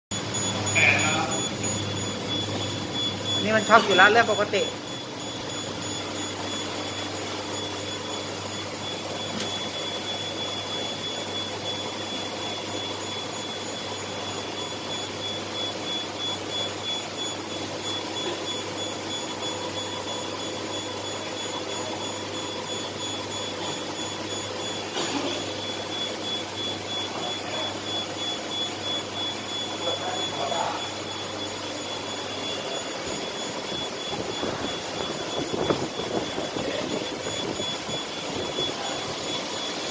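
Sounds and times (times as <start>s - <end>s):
thin high whine: 0.1s - 39.9s.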